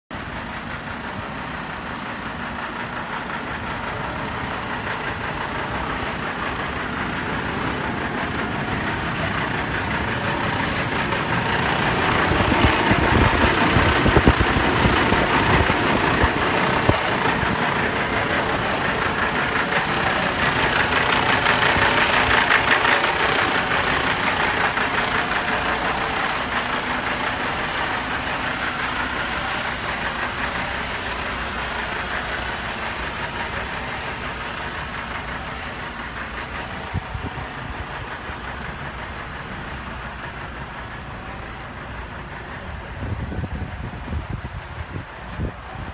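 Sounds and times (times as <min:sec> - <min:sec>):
diesel engine idling: 0:00.1 - 0:45.9.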